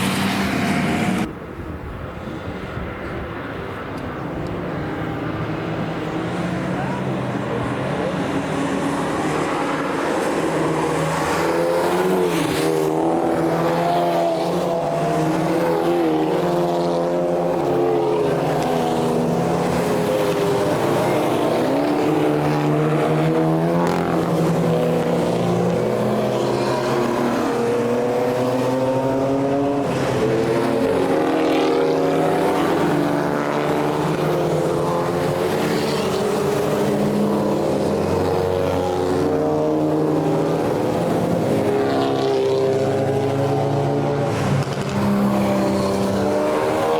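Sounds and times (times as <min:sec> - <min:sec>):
race car engines passing: 0:00.0 - 0:46.9.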